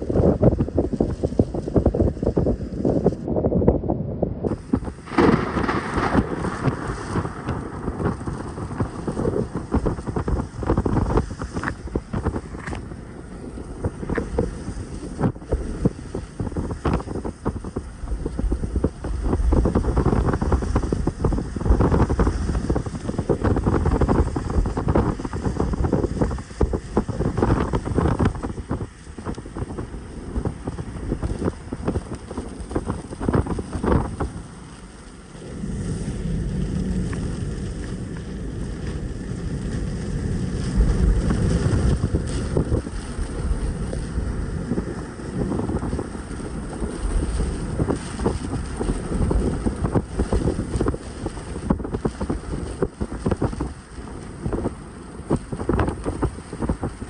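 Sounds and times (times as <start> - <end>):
gusty wind buffeting microphone: 0.0 - 57.0.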